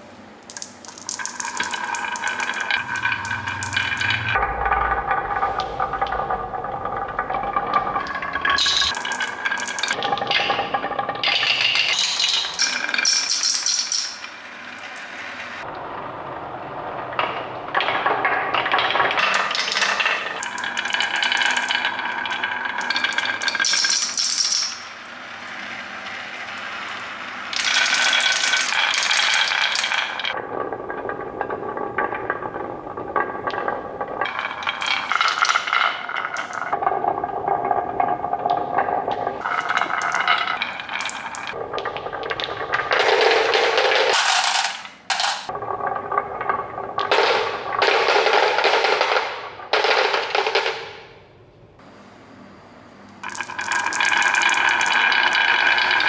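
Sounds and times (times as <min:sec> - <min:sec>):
balls rattling along toy track: 0:00.5 - 0:04.9, 0:05.6 - 0:15.7, 0:17.2 - 0:32.7, 0:33.4 - 0:36.8, 0:39.3 - 0:51.1, 0:53.2 - 0:56.0.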